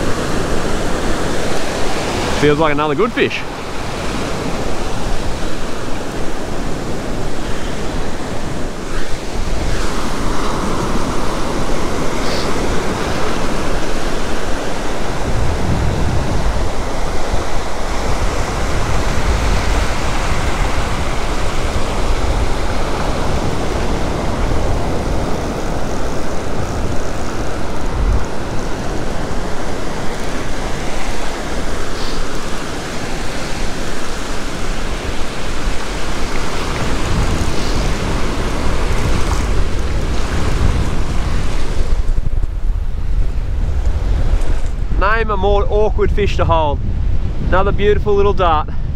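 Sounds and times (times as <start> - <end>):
ocean surf breaking: 0.0 - 48.9
wind rumbling on microphone: 0.0 - 48.9.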